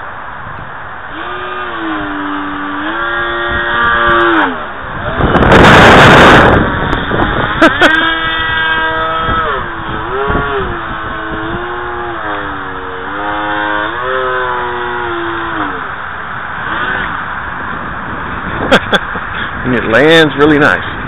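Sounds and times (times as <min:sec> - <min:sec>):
electric motor and propeller whining: 0:00.0 - 0:21.0
wind rumbling on microphone: 0:00.0 - 0:21.0.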